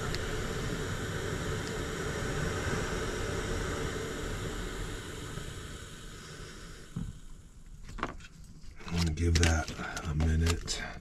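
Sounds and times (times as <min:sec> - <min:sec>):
gas burner hissing: 0:00.0 - 0:08.0, 0:08.7 - 0:11.0.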